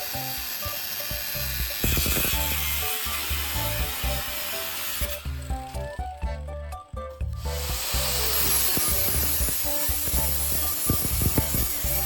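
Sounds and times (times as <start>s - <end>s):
power tool grinding hiss: 0.0s - 6.2s, 7.4s - 12.0s
music with bass line: 0.0s - 12.0s.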